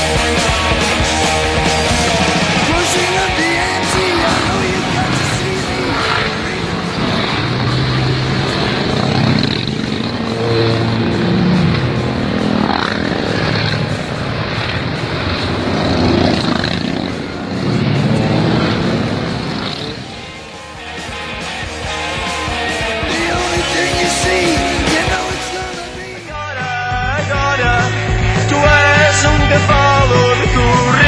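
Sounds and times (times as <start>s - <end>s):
motorcycles riding past: 0.0s - 26.3s.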